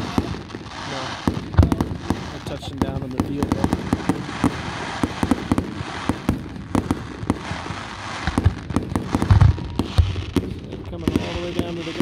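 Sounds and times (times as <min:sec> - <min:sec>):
deep fireworks booms: 0:00.0 - 0:12.0
fireworks popping and crackling: 0:00.0 - 0:12.0.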